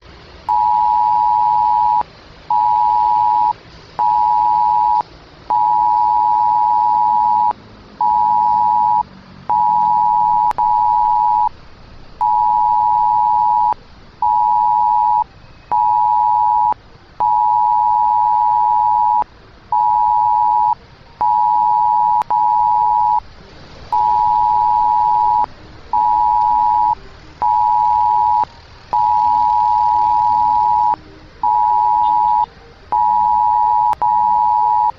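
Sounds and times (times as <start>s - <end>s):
electronic beep pulses: 0.5s - 11.5s, 12.2s - 19.2s, 19.8s - 23.2s, 23.9s - 34.9s.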